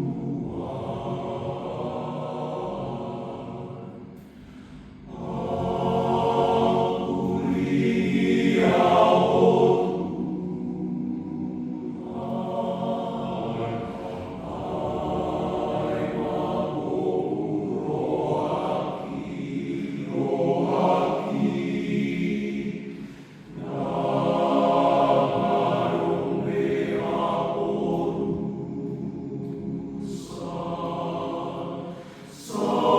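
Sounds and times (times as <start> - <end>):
men's choir singing a hymn: 0.0 - 32.9.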